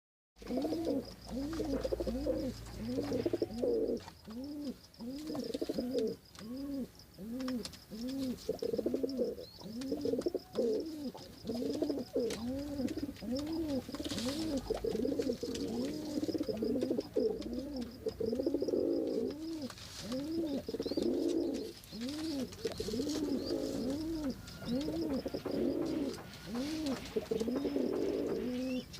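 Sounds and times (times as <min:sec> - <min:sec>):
pigeon cooing: 0:00.4 - 0:28.9.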